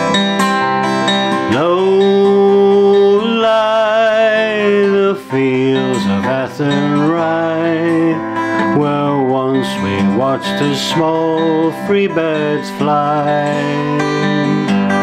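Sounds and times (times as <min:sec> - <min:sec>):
strummed acoustic guitar: 0:00.0 - 0:15.0
man singing: 0:01.4 - 0:15.0.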